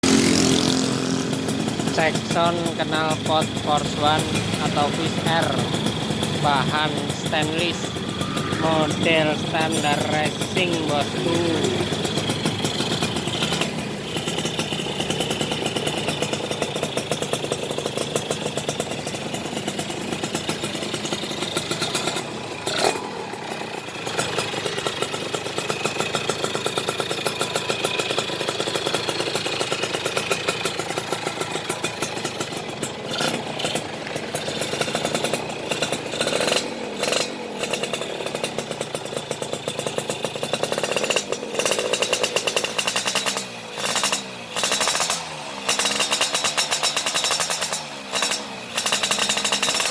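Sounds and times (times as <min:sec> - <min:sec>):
two-stroke motorcycle engine running: 0:00.0 - 0:49.9.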